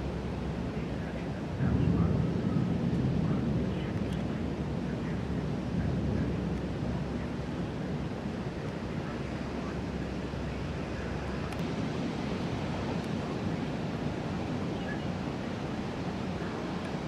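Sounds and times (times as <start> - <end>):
rushing storm wind: 0.0 - 17.0.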